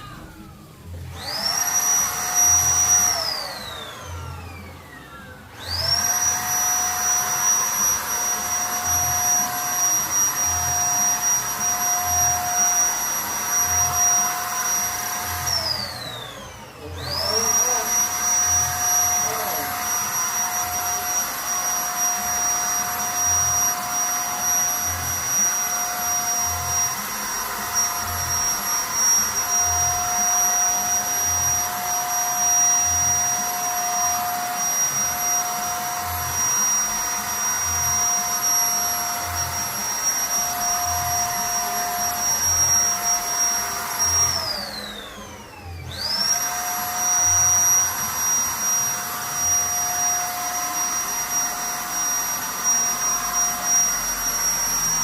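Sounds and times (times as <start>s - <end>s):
electric paint spray gun whining: 0.0s - 55.0s.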